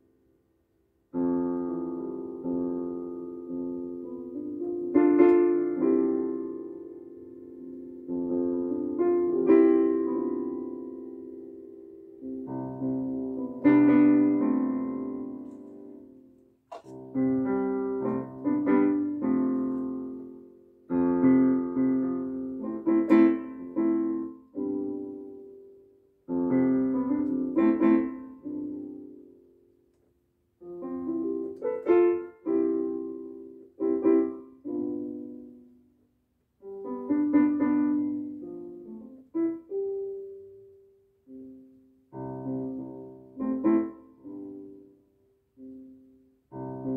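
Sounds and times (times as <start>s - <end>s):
electronic keyboard melody: 1.1s - 36.0s, 36.6s - 46.9s.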